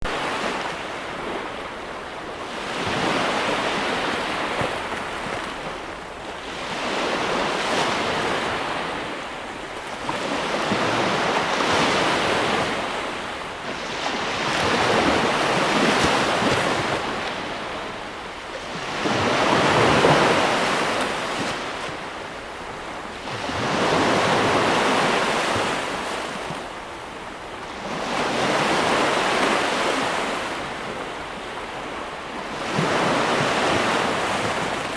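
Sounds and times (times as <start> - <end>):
sea waves breaking: 0.0 - 34.9.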